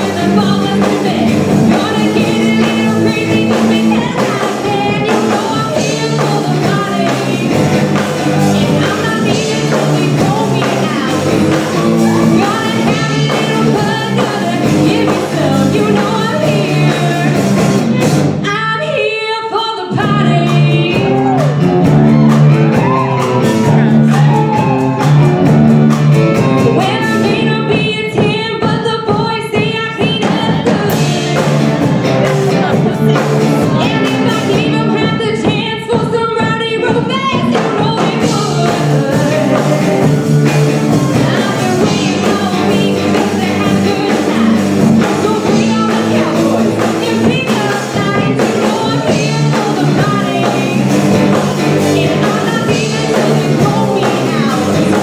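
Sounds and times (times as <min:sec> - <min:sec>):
electric guitars: 0:00.0 - 0:18.4, 0:20.0 - 0:27.9, 0:30.0 - 0:35.6, 0:36.8 - 0:55.0
drum kit: 0:00.0 - 0:18.6, 0:19.8 - 0:55.0
woman singing: 0:00.0 - 0:25.6, 0:26.4 - 0:55.0.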